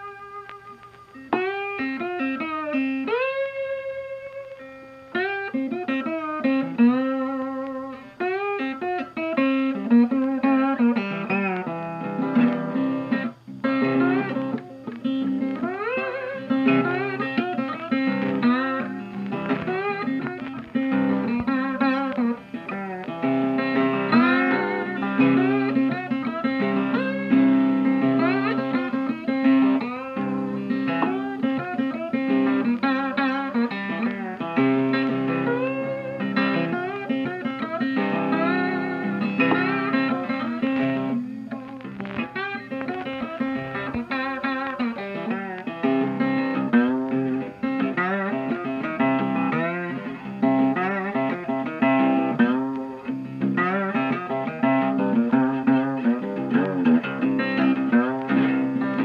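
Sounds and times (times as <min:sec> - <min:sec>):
instrumental guitar music: 0:00.0 - 0:59.0.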